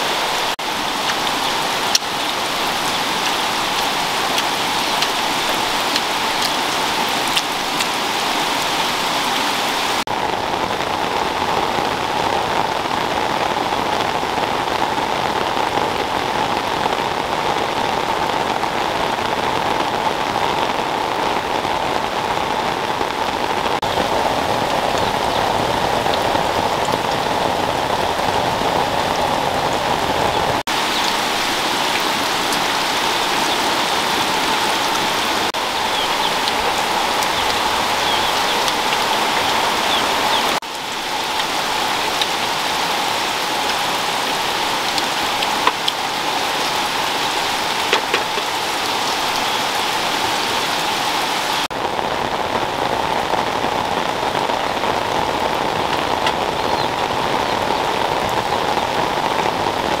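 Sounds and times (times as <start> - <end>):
steady rain: 0.0 - 60.0.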